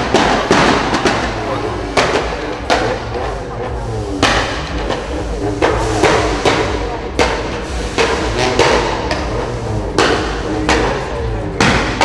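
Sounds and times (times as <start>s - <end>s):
car exhaust banging and popping: 0.0s - 12.0s
low engine rumble: 0.0s - 12.0s.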